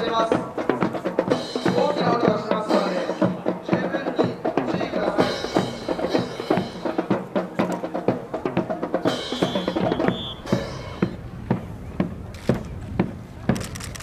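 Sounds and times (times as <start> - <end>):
drums playing: 0.0 - 14.0.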